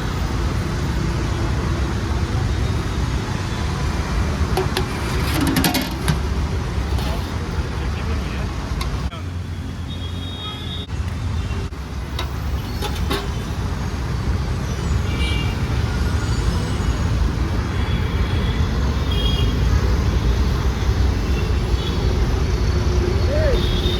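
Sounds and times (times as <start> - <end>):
traffic engines rumbling: 0.0 - 23.9.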